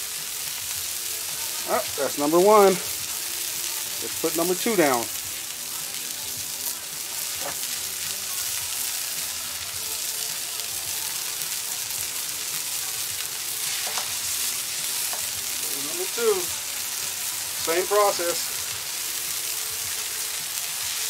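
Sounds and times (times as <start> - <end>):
meat sizzling on a griddle: 0.0 - 21.0.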